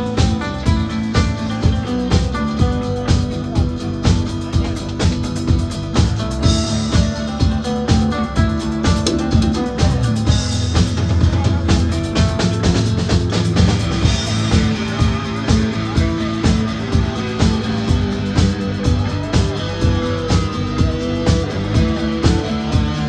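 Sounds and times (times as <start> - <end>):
drum kit beat: 0.0 - 23.0
electric guitar: 0.0 - 23.0.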